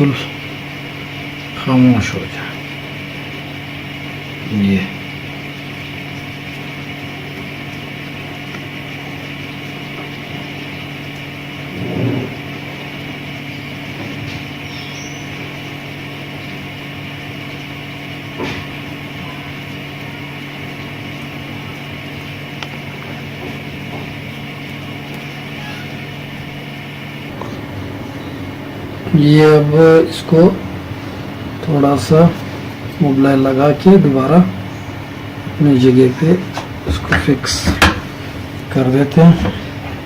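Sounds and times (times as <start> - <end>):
exhaust fan motor hum: 0.0 - 40.0.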